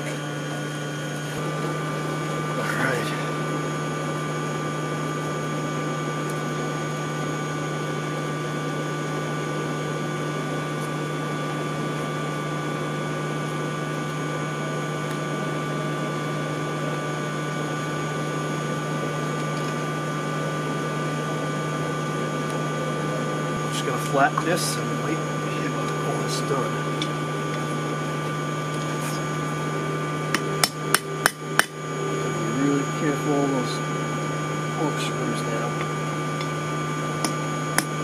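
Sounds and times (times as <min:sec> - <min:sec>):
air blower humming: 0:00.0 - 0:38.0.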